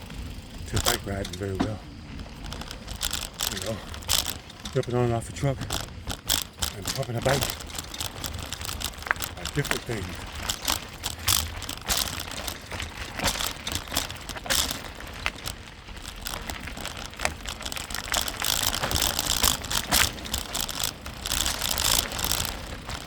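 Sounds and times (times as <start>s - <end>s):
bicycle frame rattling: 0.0s - 23.0s
freewheel ratchet ticking: 0.0s - 23.0s.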